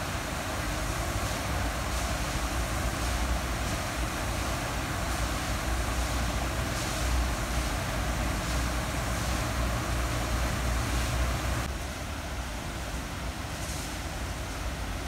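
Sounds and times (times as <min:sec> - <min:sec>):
waterfall splashing into pond: 0:00.0 - 0:15.0.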